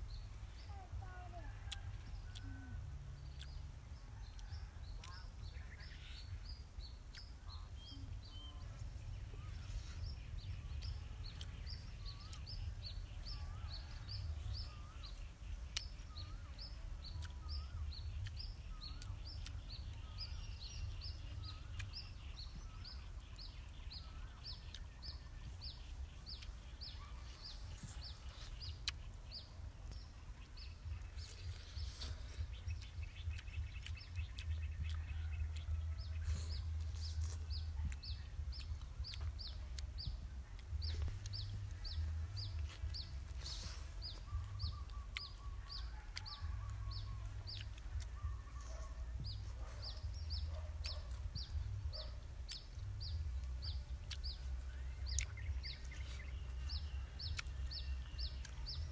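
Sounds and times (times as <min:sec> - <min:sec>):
small bird high chirps: 0:00.0 - 0:58.9
steady low rumble: 0:00.0 - 0:58.9.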